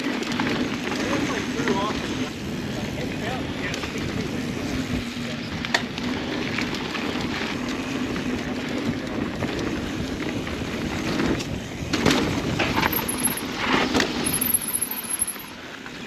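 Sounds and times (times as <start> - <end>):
bike tyres rolling on dirt: 0.0 - 16.0.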